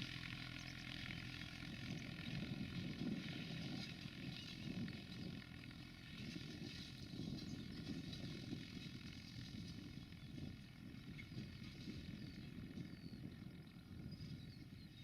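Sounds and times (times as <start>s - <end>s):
tractor engine humming: 0.0s - 15.0s.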